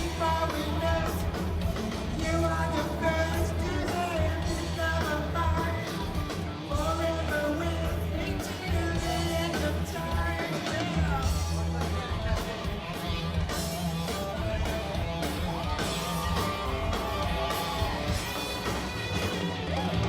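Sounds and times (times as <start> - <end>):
person singing: 0.0 - 20.0
rock band playing: 0.0 - 20.0.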